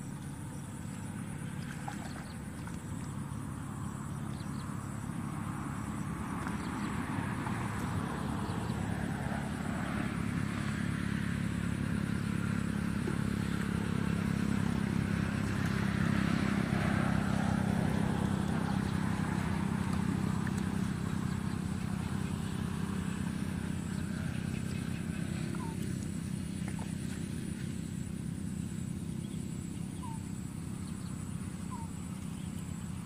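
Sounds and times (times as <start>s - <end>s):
small engine running: 0.0s - 33.0s.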